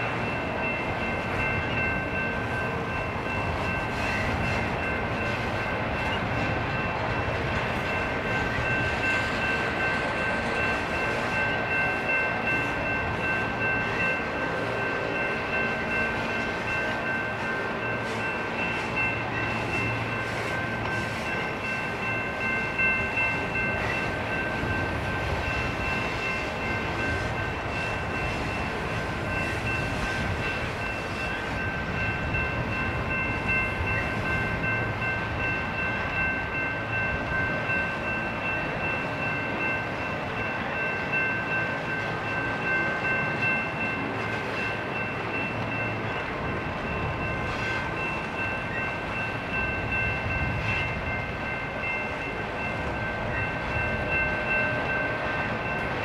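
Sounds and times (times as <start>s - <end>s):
freight train rumbling on rail: 0.0s - 56.0s.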